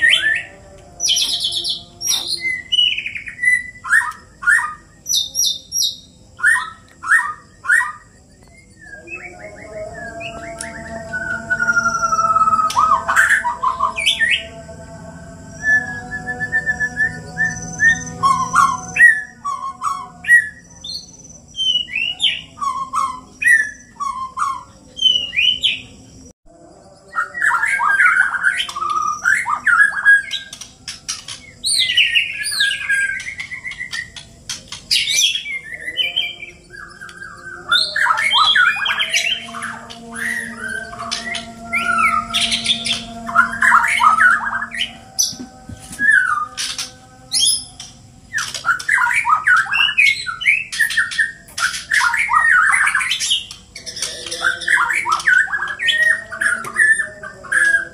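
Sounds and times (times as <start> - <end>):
birds singing fast whistled notes: 0.0 - 14.6, 15.4 - 26.3, 27.0 - 57.9
harsh rasping bird calls: 0.0 - 16.4, 27.2 - 57.9.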